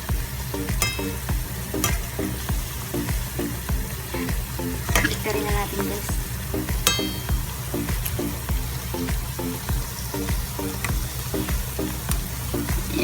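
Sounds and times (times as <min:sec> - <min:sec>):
bananas sizzling in hot oil: 0:00.0 - 0:13.0.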